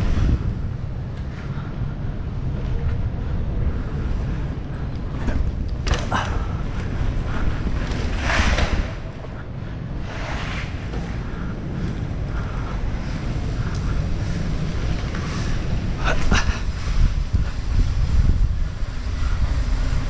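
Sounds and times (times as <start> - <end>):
wind buffeting microphone: 0.0 - 10.2, 10.8 - 20.0.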